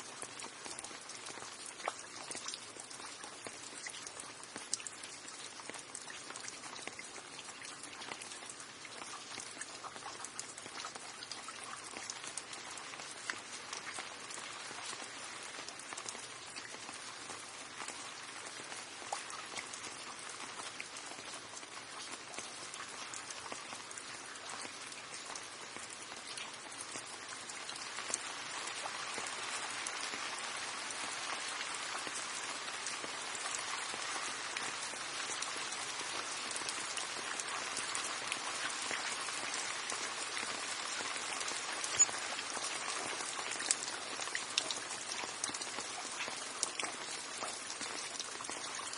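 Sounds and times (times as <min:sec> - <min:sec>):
raindrops ticking: 0:00.0 - 0:48.9
steady rain hiss: 0:00.0 - 0:48.9.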